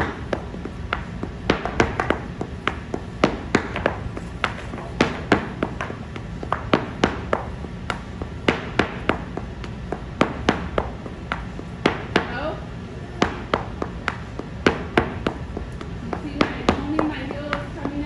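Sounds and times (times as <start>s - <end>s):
heeled shoes tapping and stamping: 0.0s - 18.0s.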